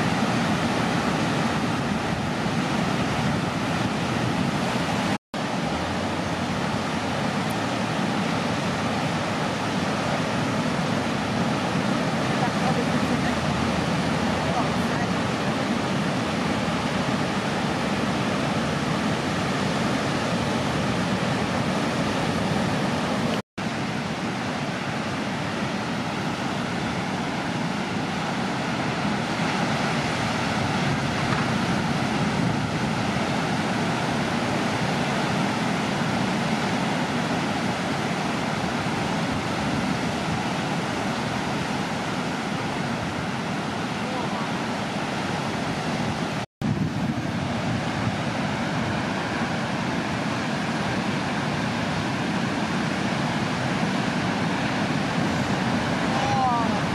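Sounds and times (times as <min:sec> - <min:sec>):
ocean surf breaking: 0:00.0 - 0:56.9.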